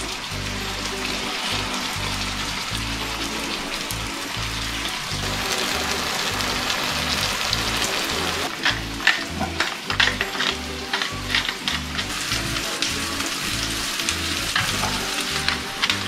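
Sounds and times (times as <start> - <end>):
food sizzling in a pan: 0.0 - 16.0
music with bass beat: 0.0 - 16.0.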